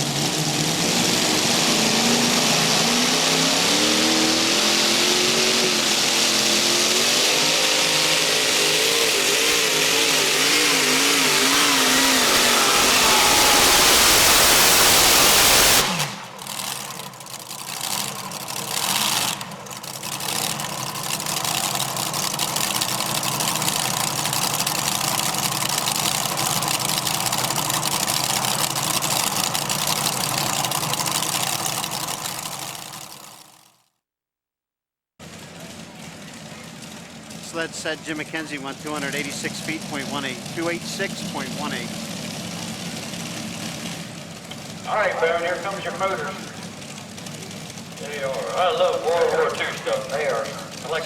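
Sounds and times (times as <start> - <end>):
engines winding down: 0.0 - 33.7, 35.2 - 51.0
engines idling: 0.0 - 33.8, 35.2 - 51.0
tractor engines at full power: 0.0 - 33.8, 35.2 - 51.0.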